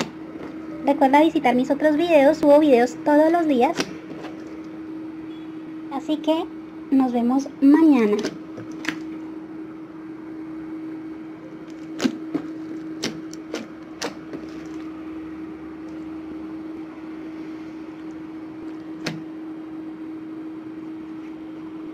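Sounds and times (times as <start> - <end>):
steady hum: 0.0 - 21.9.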